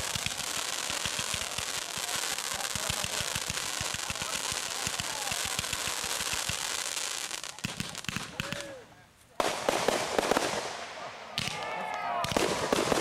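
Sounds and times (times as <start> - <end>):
fireworks shots thumping: 0.0 - 6.7, 7.6 - 8.7, 9.4 - 11.6, 12.2 - 13.0
hiss of burning fireworks: 0.0 - 11.6, 12.2 - 13.0.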